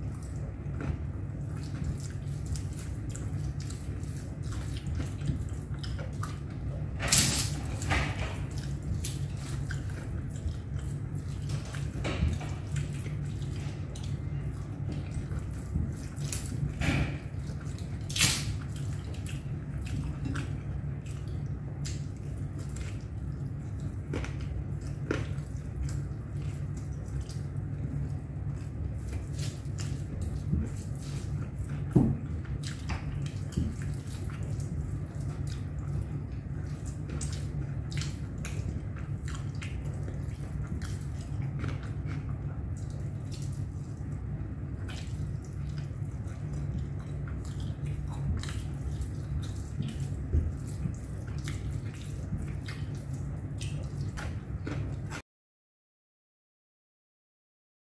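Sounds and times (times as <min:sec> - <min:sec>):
chewing clicks and smacks: 0:00.0 - 0:55.2
steady low hum: 0:00.0 - 0:55.2.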